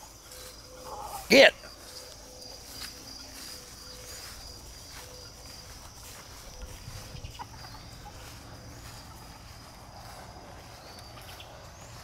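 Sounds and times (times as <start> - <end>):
footsteps through grass: 0.0 - 12.0
insects chirping: 0.0 - 12.0.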